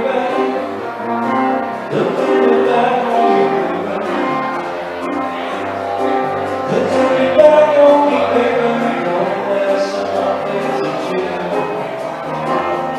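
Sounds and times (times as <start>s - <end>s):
music with singing: 0.0s - 12.9s.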